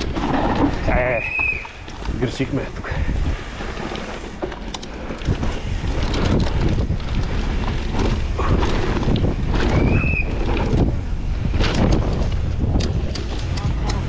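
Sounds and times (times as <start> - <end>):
bike rattles and knocks: 0.0 - 14.0
wind buffeting microphone: 0.0 - 14.0.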